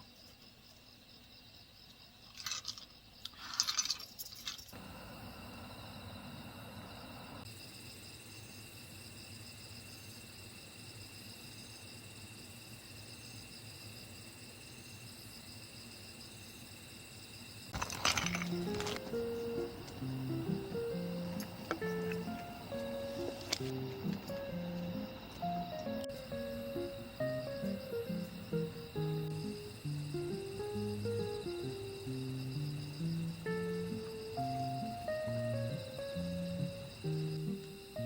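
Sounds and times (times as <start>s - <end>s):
crickets and insects chirping: 0.0s - 38.0s.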